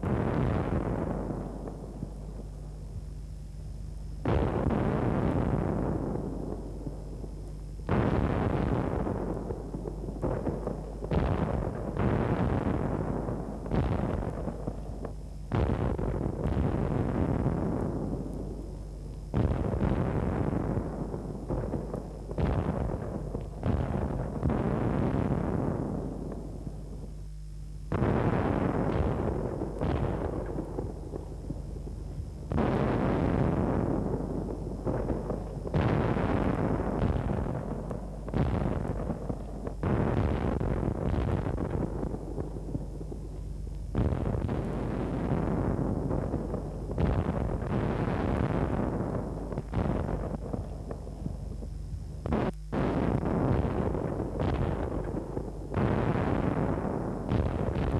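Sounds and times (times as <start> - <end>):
booming explosions: 0.0 - 57.9
steady low hum: 0.0 - 57.9.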